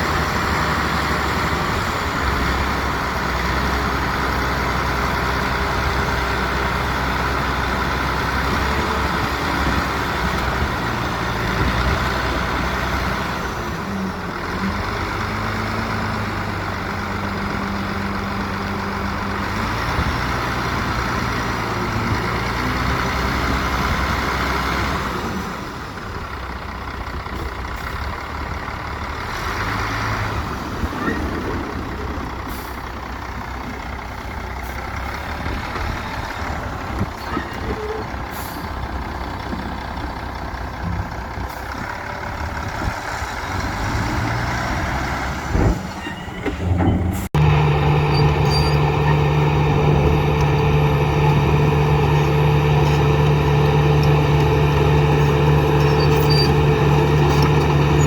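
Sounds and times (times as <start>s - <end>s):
heavy machinery diesel engines: 0.0s - 58.0s.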